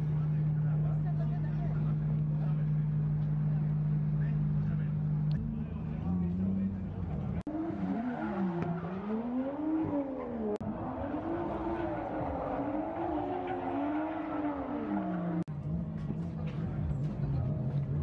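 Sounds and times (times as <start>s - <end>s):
car engines revving: 0.0s - 18.0s
low engine hum: 0.0s - 18.0s.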